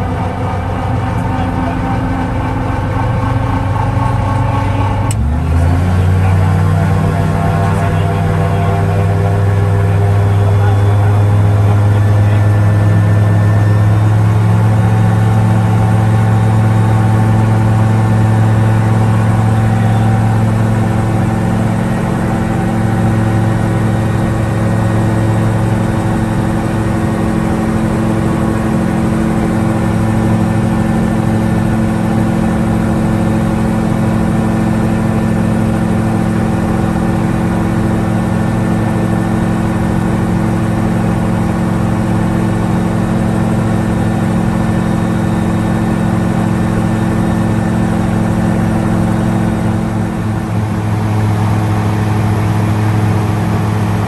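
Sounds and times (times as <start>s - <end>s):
aircraft engine droning: 0.0s - 54.0s.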